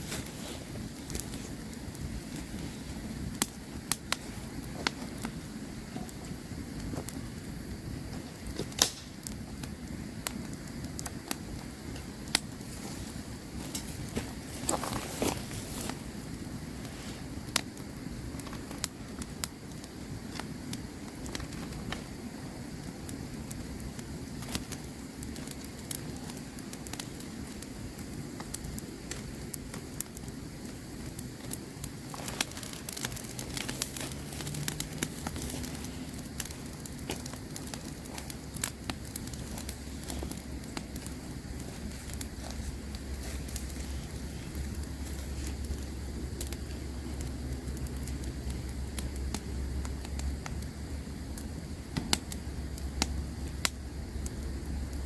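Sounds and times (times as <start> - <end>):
campfire crackling: 0.0 - 55.0
low steady rumble: 0.0 - 55.0.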